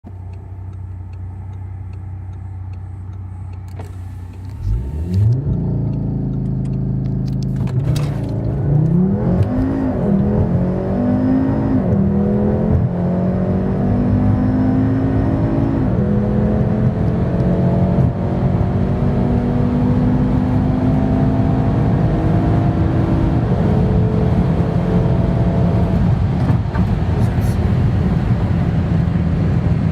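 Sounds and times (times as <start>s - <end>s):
car engine accelerating hard: 3.8s - 29.9s.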